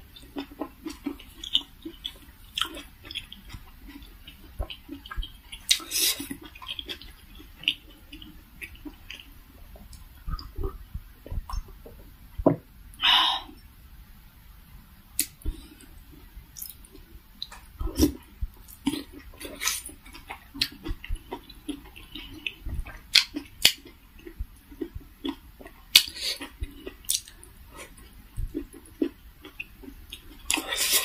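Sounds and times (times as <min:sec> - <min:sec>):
person chewing with wet mouth sounds: 0:00.0 - 0:12.0, 0:15.2 - 0:31.0.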